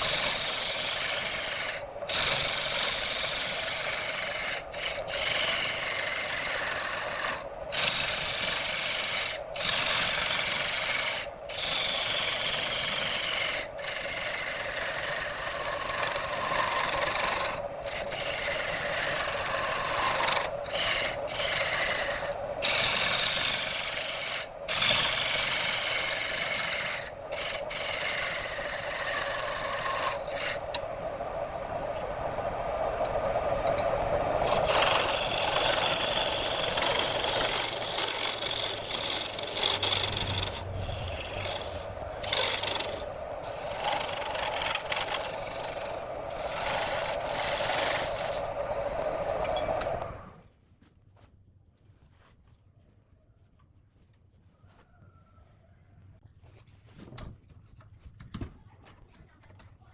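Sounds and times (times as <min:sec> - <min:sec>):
wood lathe tool scraping wood: 0:00.0 - 0:50.4.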